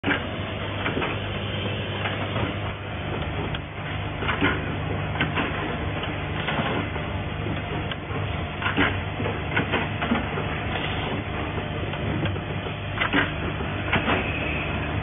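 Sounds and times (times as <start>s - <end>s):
low machine hum: 0.0s - 15.0s
machine clacks: 2.0s - 15.0s.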